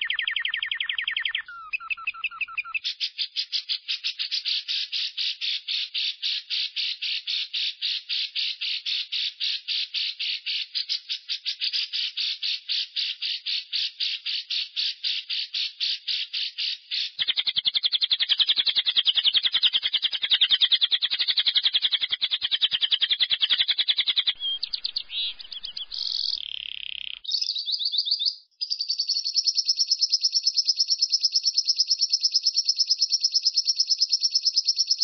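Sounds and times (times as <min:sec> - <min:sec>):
lovebird chattering trill: 0:00.0 - 0:35.0.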